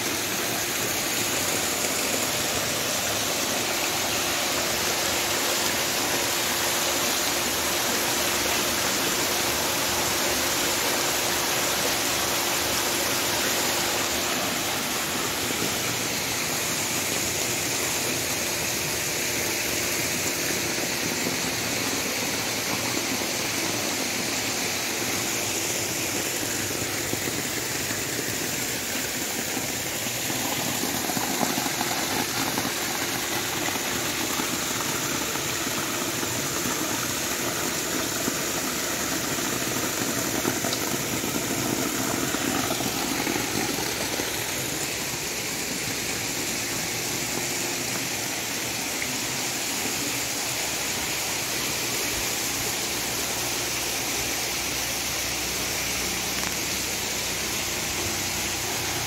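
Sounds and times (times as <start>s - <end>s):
water rushing into a pond: 0.0s - 59.0s.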